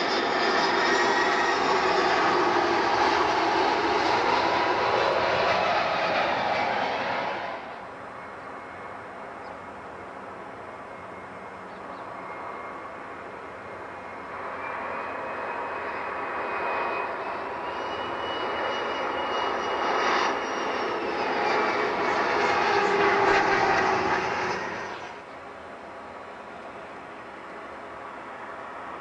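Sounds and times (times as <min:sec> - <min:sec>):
jet engines roaring and whining: 0:00.0 - 0:29.0.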